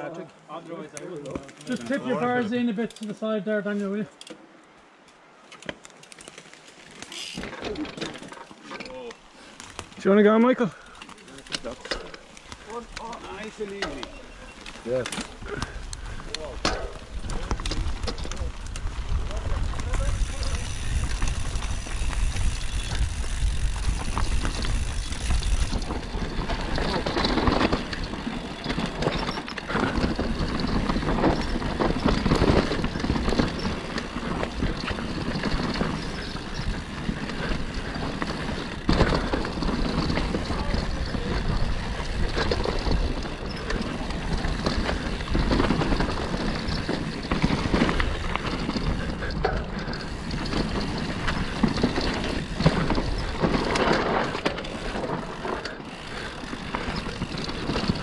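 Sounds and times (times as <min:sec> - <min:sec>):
bike tyres rumbling over dirt: 0:06.1 - 0:58.0
bike rattling and knocking: 0:06.4 - 0:58.0.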